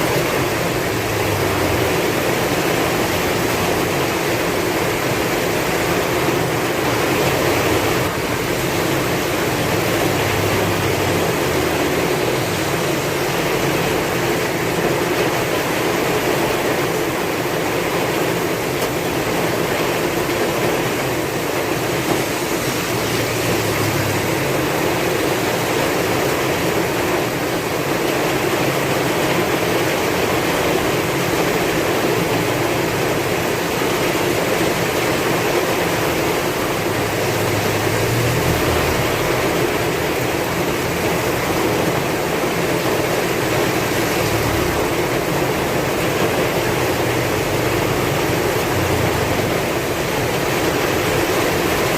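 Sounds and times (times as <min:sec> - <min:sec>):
heavy rain in strong wind: 0:00.0 - 0:51.9.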